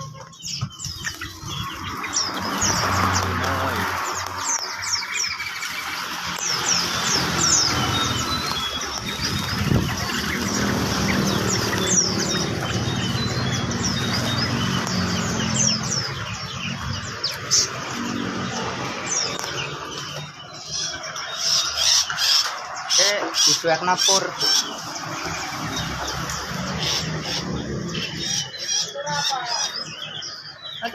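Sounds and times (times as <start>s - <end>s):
songbirds chirping: 0.0s - 30.9s.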